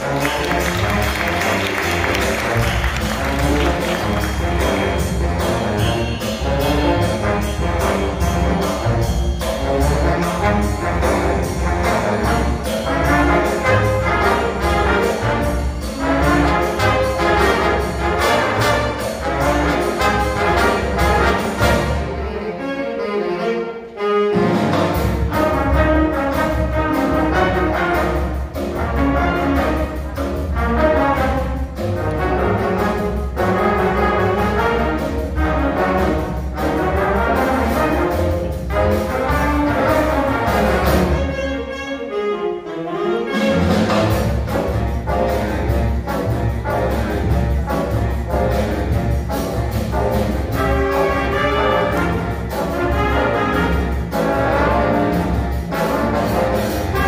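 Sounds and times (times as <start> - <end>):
jazz big band playing: 0.0 - 57.0.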